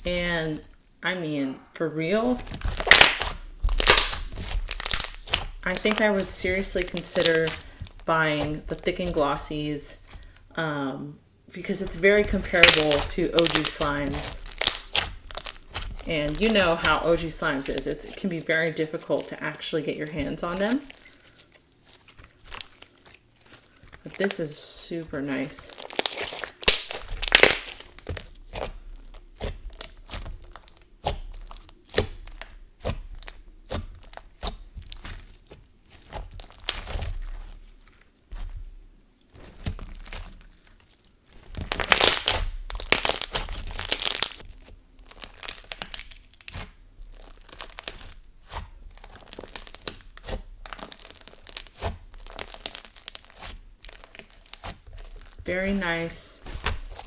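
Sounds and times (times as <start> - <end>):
slime popping and crackling: 2.2 - 10.5, 11.6 - 57.0.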